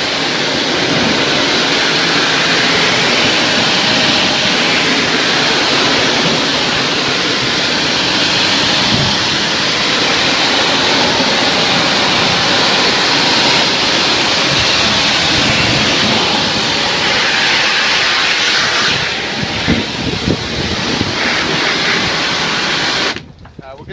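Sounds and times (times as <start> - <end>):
water spray hissing on coil: 0.0 - 23.2.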